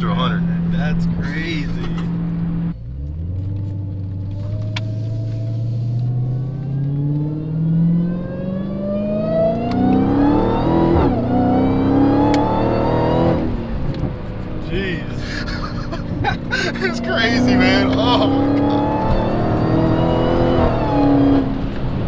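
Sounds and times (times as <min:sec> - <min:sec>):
supercharger whine: 0:00.0 - 0:15.5, 0:16.8 - 0:22.0
car engine accelerating hard: 0:00.0 - 0:22.0.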